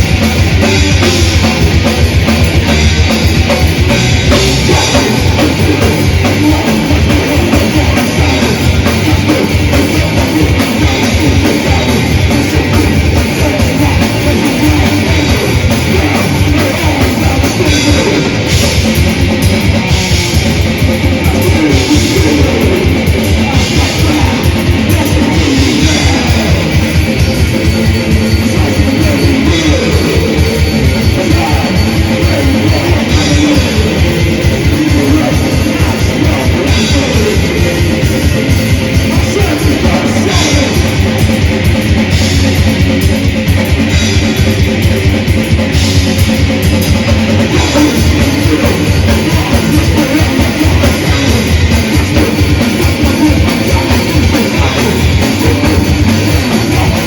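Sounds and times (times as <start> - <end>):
distorted electric guitars: 0.0 - 57.0
fast drum kit playing: 0.0 - 57.0.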